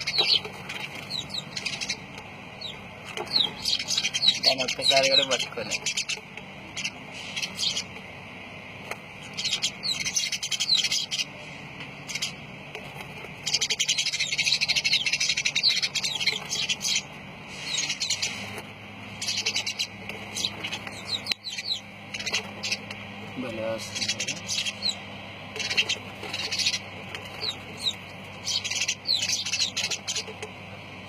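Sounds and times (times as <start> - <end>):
lovebirds chirping: 0.0 - 30.8.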